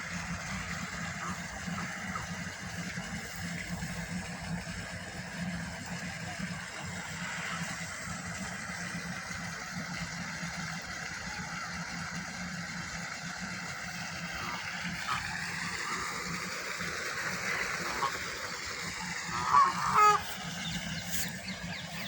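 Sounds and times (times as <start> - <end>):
ducks quacking: 0.0 - 10.2, 13.3 - 22.0
low background hum: 0.0 - 22.0.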